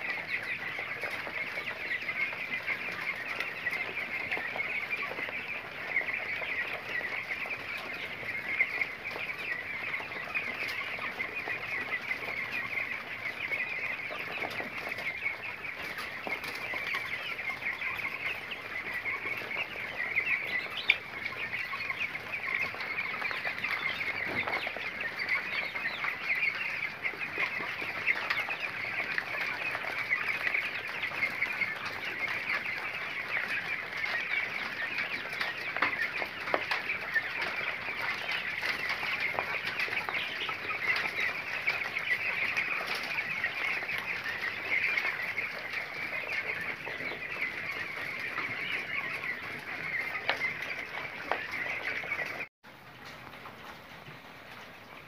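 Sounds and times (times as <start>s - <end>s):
quail chirping: 0.0s - 52.5s.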